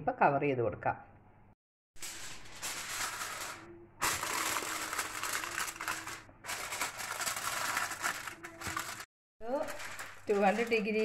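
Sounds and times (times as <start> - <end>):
aluminium foil crinkling: 2.0 - 11.0.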